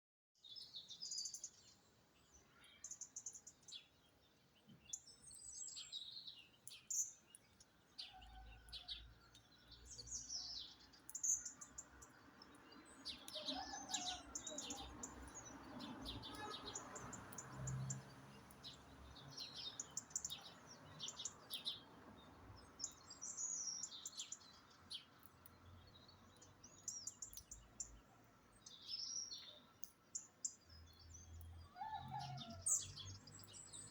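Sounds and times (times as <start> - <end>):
birds chirping and singing: 0.5 - 25.2, 25.8 - 33.9.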